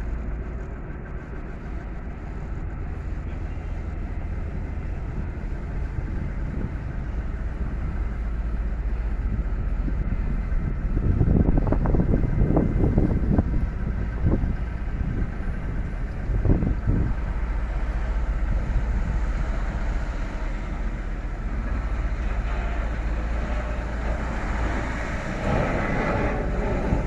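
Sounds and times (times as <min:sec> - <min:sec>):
low rumble of vehicles: 0:00.0 - 0:27.0
wind buffeting microphone: 0:00.0 - 0:27.0.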